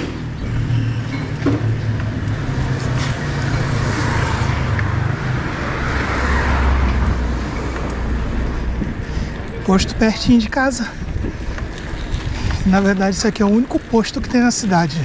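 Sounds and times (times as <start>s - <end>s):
motor traffic: 0.0s - 15.0s
wind and tyre rumble: 0.0s - 15.0s.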